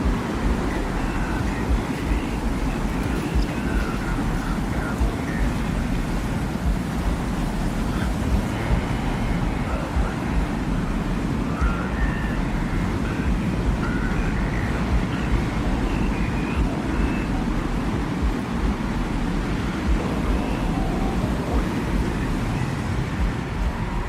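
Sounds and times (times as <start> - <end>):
low rushing wind: 0.0 - 24.0.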